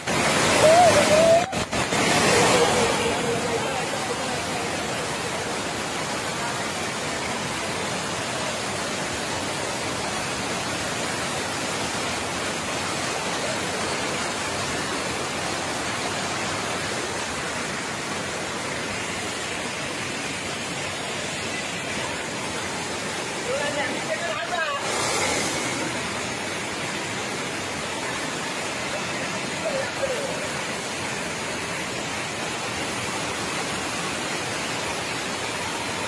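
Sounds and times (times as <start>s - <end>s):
water rushing over weir: 0.0s - 36.0s.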